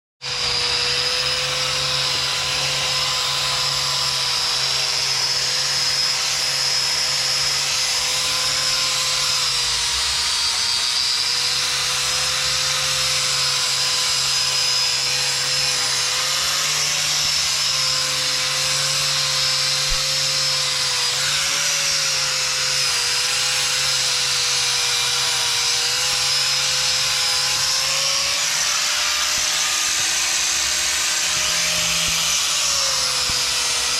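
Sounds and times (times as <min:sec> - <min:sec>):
high-speed power tool whining: 0:00.2 - 0:33.9.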